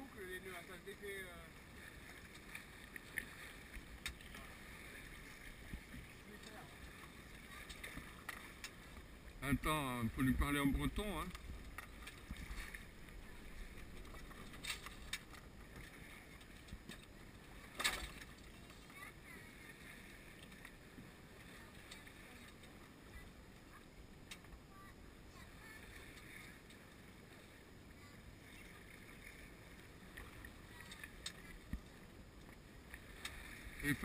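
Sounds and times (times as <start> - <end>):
wind and water hissing: 0.0 - 34.0.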